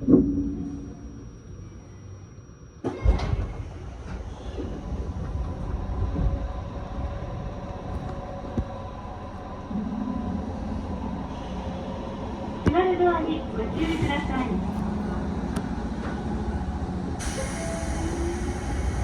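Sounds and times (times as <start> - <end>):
train low rumbling: 0.0 - 19.0.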